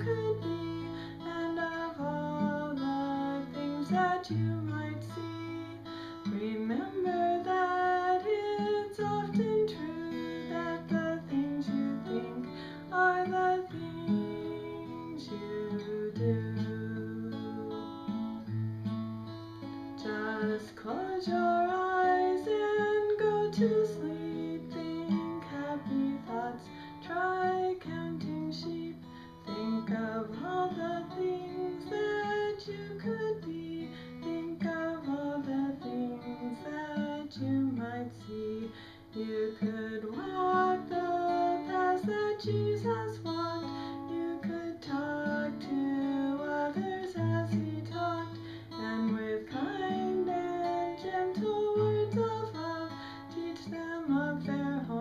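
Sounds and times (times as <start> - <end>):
woman singing lullaby: 0.0 - 18.4, 20.0 - 55.0
acoustic guitar: 0.0 - 55.0.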